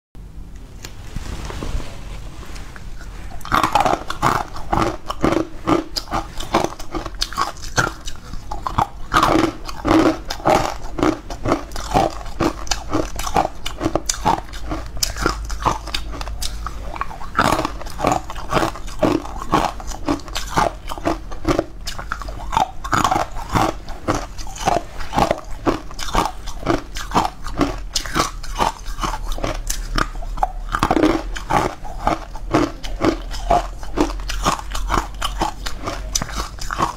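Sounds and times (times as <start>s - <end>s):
crisp chewing crunches: 2.7s - 36.9s.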